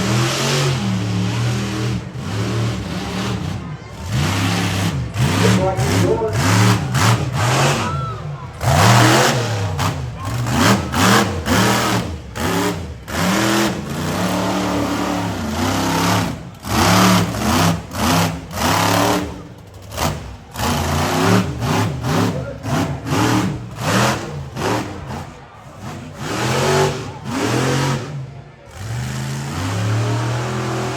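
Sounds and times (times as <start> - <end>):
truck engine revving: 0.0 - 30.9.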